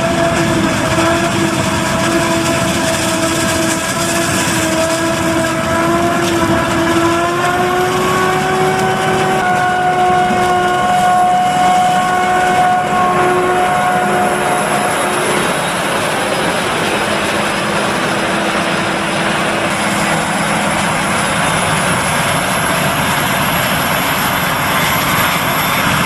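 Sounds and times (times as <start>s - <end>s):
engine and crop noise: 0.0s - 26.0s
harvester mechanical whine: 0.0s - 26.0s.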